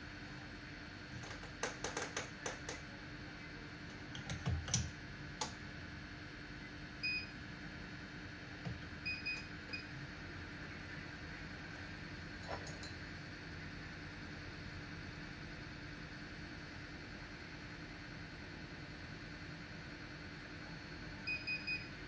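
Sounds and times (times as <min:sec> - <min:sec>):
hot air station hum and hiss: 0:00.0 - 0:22.0.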